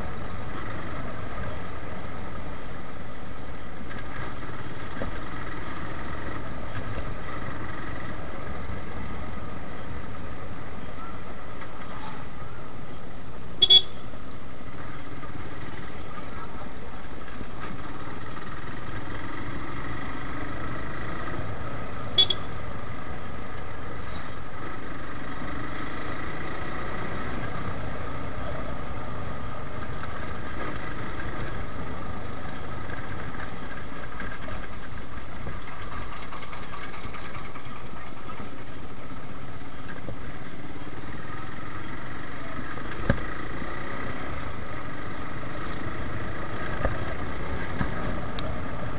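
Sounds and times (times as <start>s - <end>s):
motorcycle engine running: 0.0s - 48.9s
road and wind noise: 0.0s - 48.9s.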